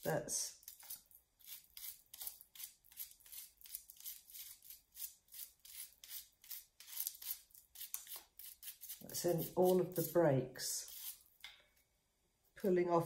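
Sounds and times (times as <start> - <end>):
wire brush scrubbing plaster: 0.5 - 11.4.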